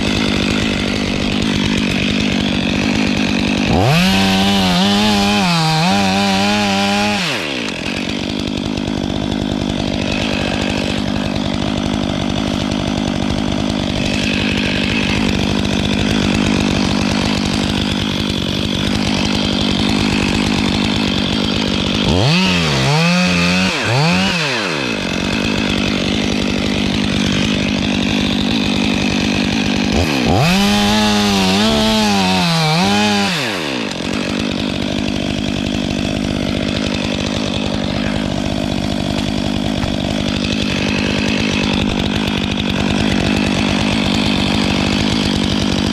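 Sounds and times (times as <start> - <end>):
chainsaw cutting wood: 0.0 - 45.9
chainsaw running at low speed: 0.0 - 45.9.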